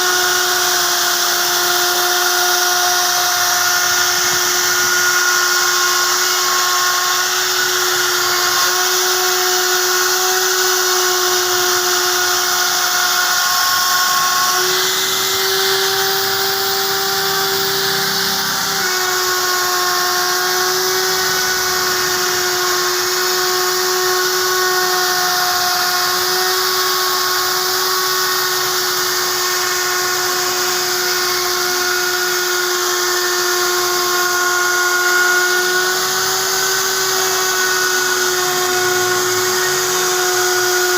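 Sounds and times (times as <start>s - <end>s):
wood router cutting wood: 0.0s - 40.9s.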